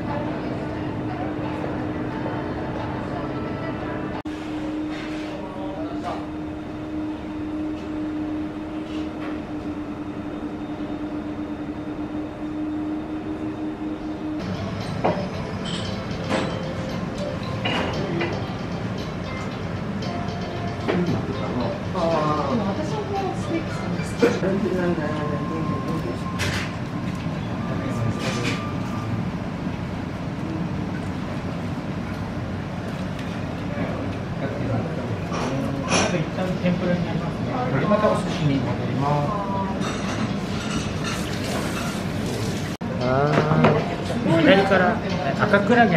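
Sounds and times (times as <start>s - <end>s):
restaurant background rumble: 0.0s - 45.9s
steady mechanical hum: 0.0s - 45.9s.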